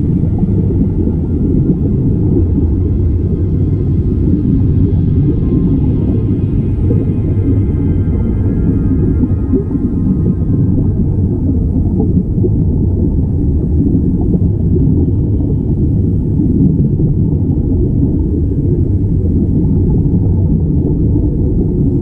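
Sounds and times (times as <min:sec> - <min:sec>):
streaming air bubbles: 0:00.0 - 0:22.0
underwater water rumble: 0:00.0 - 0:22.0.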